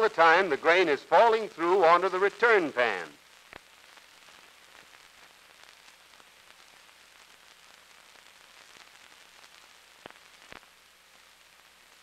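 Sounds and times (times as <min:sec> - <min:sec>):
old film soundtrack hiss and crackle: 0:00.0 - 0:12.0.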